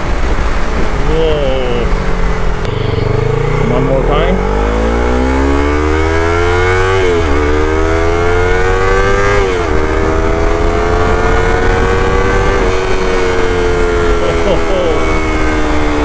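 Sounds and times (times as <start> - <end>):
motorcycle engine accelerating hard: 0.0 - 16.0.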